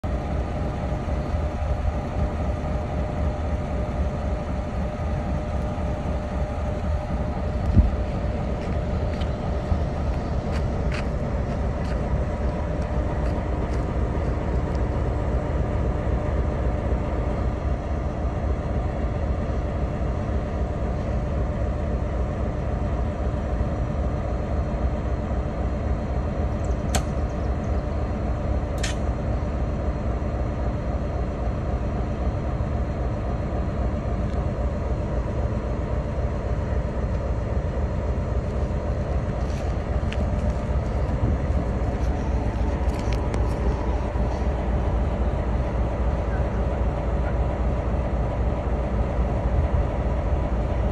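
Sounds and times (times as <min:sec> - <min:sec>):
diesel locomotive rumbling: 0:00.0 - 0:50.9.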